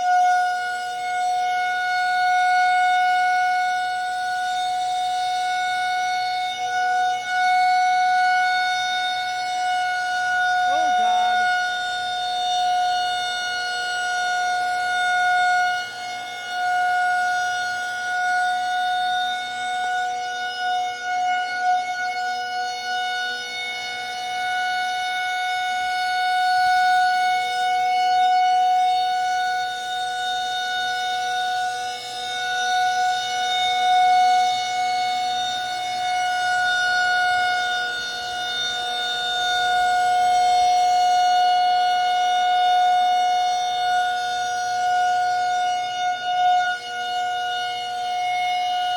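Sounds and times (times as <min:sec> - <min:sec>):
warning siren steady tone: 0:00.0 - 0:48.9.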